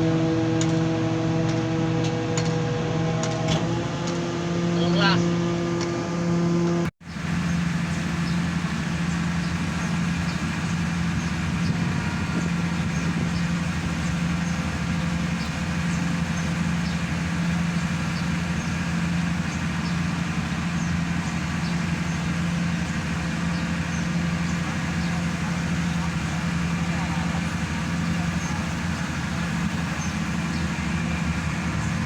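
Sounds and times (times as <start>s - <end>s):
pile driver engine running: 0.0s - 32.0s.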